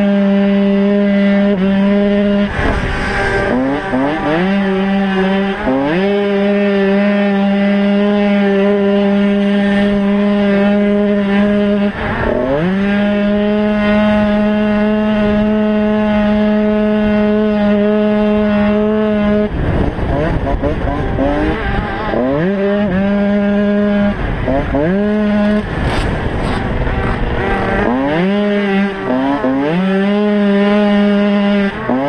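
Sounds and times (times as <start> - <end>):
motorbike engine revving: 0.0 - 32.0.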